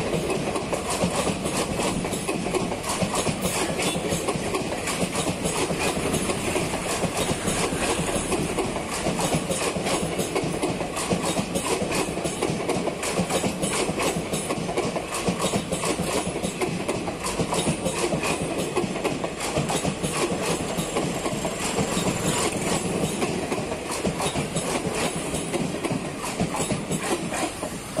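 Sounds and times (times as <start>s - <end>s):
train coaches rumbling past: 0.0s - 28.0s
wheels clattering over rail joints: 0.1s - 28.0s.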